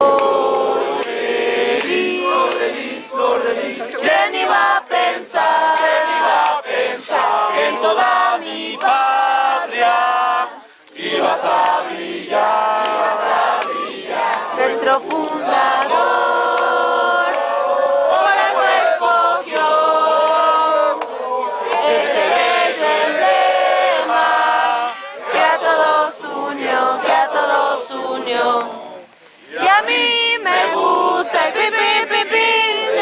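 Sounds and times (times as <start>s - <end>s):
group of people singing: 0.0s - 33.0s.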